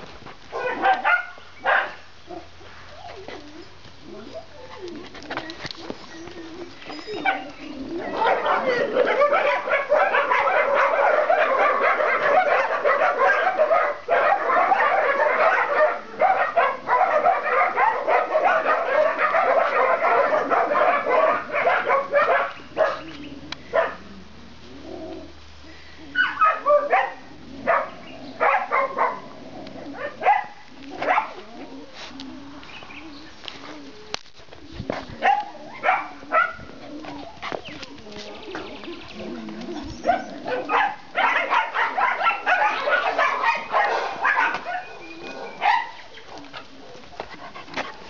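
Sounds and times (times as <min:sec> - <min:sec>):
dogs barking and yipping: 0:00.0 - 0:24.1, 0:26.1 - 0:33.6, 0:34.9 - 0:48.0.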